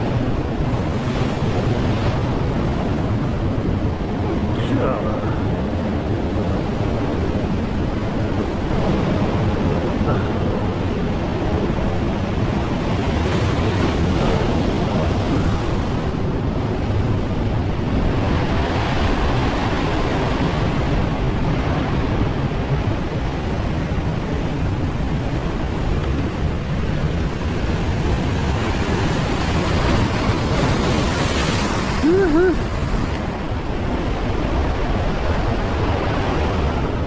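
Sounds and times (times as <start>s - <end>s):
heavy surf breaking on rocks: 0.0s - 37.0s
wind rumble on microphone: 0.0s - 37.0s.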